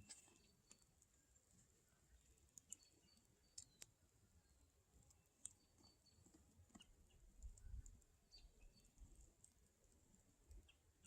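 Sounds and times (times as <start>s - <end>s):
campfire crackles: 0.0s - 11.0s.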